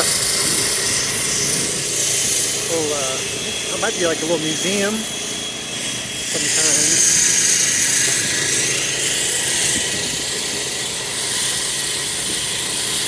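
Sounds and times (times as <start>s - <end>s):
road work machinery grinding: 0.0s - 13.0s.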